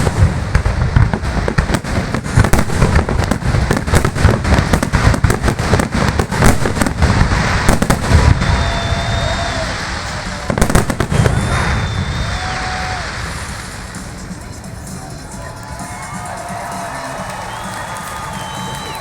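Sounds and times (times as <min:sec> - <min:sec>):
fireworks bursts and crackling: 0:00.0 - 0:19.0.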